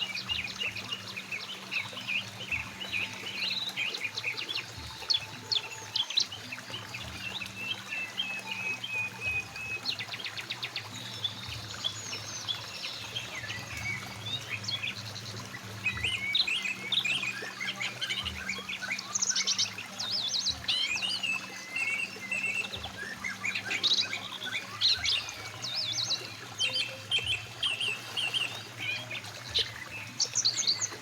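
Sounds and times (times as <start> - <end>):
bird trill: 0.0 - 31.0
birds chirping and calling: 0.0 - 31.0
faint stream flowing: 0.0 - 31.0.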